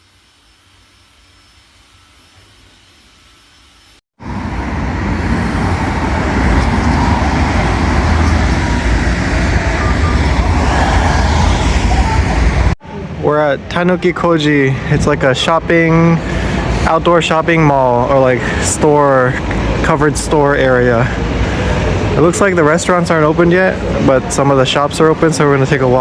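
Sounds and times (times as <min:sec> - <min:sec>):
city street traffic rumble: 0:04.2 - 0:26.0.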